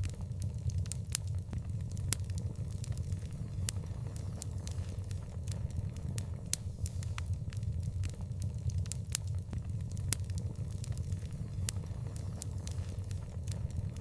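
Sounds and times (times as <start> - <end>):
fire pops and snaps: 0.0 - 14.0
low rumble of burning fire: 0.0 - 14.0.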